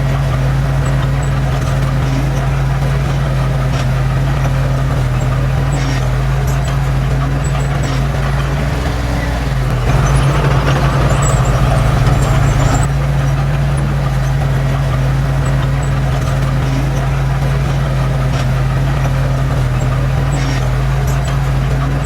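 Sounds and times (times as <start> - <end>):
heavy diesel engine humming: 0.0 - 22.0.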